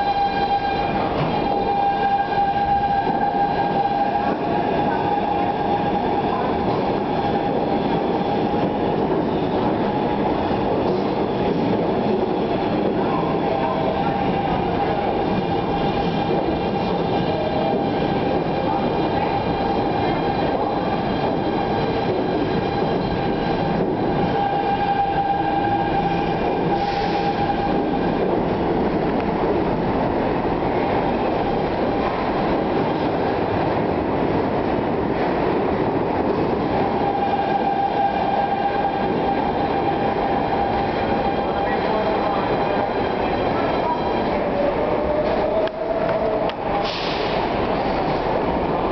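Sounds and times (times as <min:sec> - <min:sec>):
subway train wheels rumbling: 0:00.0 - 0:48.9.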